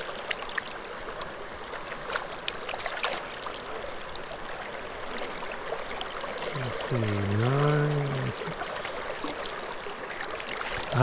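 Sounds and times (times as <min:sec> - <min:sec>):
river current rushing: 0:00.0 - 0:11.0
small water splashes: 0:00.0 - 0:11.0.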